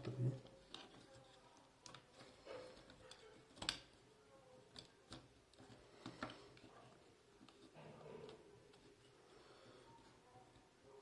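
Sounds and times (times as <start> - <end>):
faint handling noise: 0.0 - 11.0.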